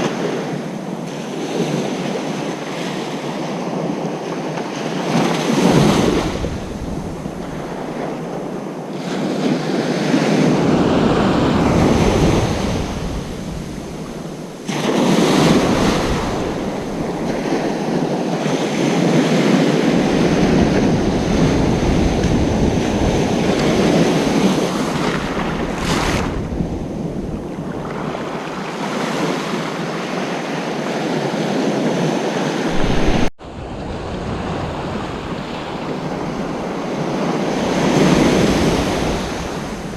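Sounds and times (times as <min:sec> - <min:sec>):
ocean surf breaking: 0:04.8 - 0:30.4, 0:31.4 - 0:39.9.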